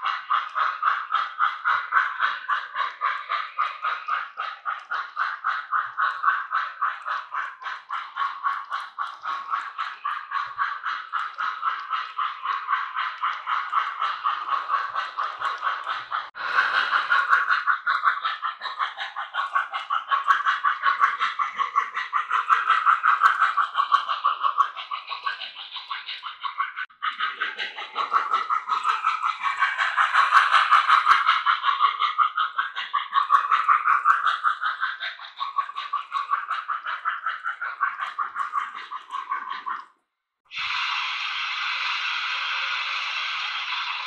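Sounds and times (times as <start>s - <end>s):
model steam locomotive chuffing: 0.0s - 39.9s, 40.5s - 44.0s.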